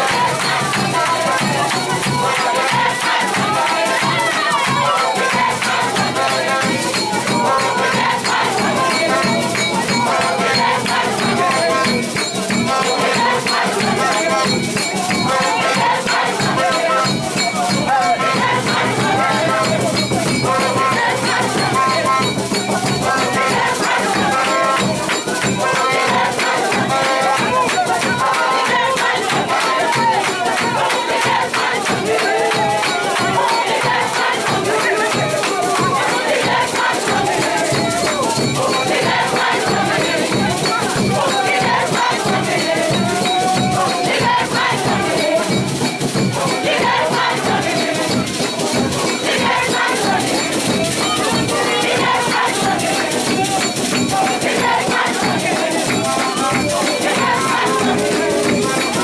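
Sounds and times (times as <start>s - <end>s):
crowd singing and calling out: 0.0s - 59.0s
rattling hand percussion: 0.0s - 59.0s.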